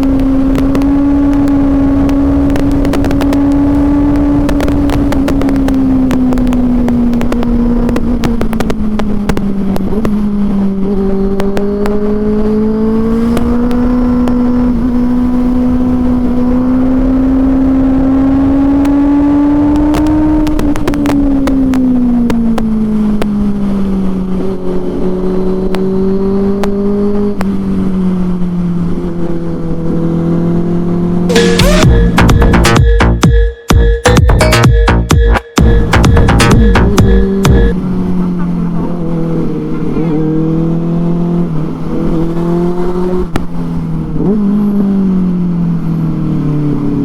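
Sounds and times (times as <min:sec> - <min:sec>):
motorcycle engine running: 0:00.0 - 0:26.2, 0:31.2 - 0:45.3.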